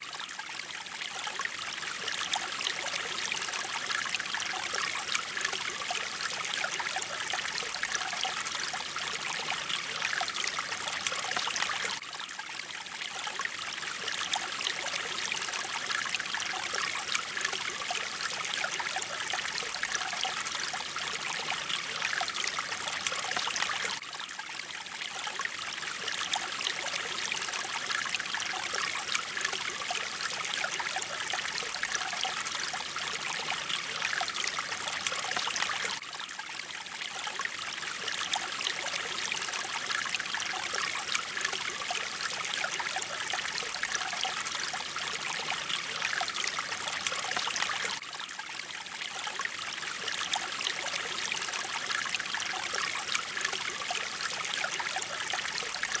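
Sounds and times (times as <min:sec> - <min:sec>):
mountain water flowing: 0:00.0 - 0:56.0.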